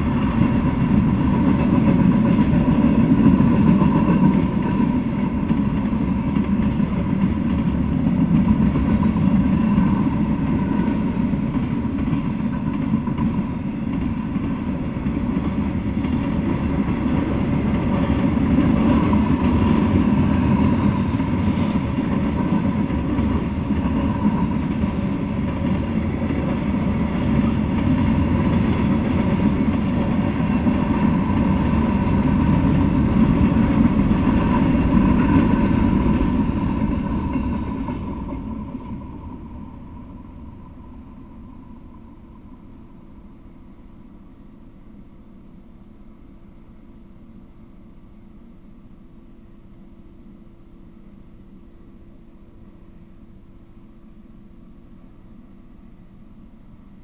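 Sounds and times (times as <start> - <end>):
train wheels rumbling on track: 0.0 - 46.4.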